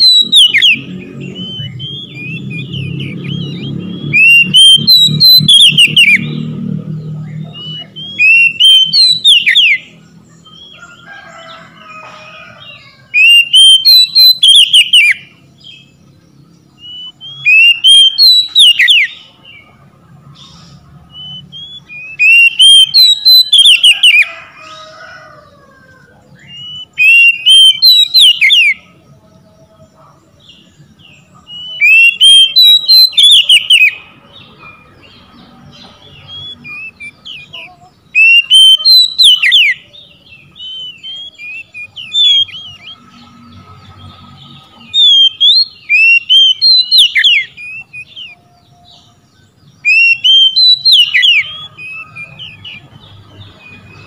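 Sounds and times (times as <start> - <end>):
bird singing whistled notes: 0.0 - 11.4, 12.6 - 19.6, 20.4 - 24.3, 26.3 - 29.3, 30.5 - 35.0, 35.6 - 54.0.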